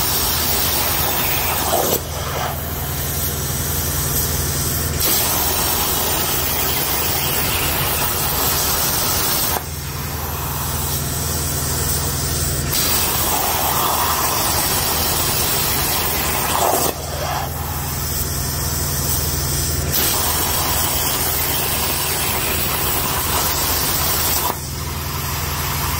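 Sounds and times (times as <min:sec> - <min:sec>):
plasma torch hissing: 0:00.0 - 0:25.9.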